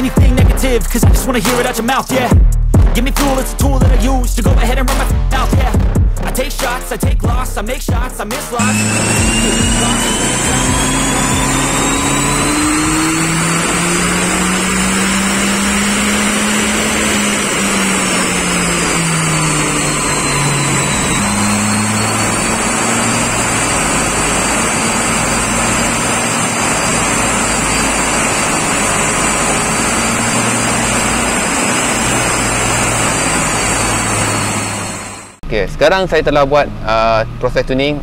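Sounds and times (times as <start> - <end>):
turbocharged car engine running hard: 0.0 - 38.0.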